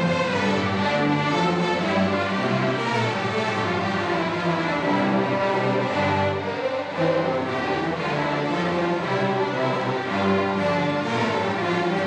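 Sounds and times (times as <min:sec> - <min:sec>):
string orchestra playing: 0:00.0 - 0:12.0.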